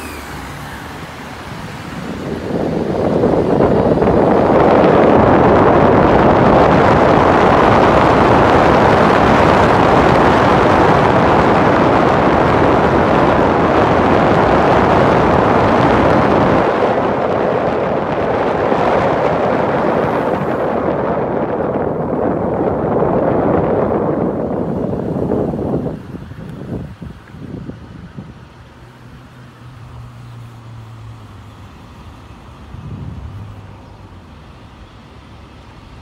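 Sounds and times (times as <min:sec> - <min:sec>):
wind on microphone: 0:00.0 - 0:34.7
light road traffic: 0:00.0 - 0:36.0.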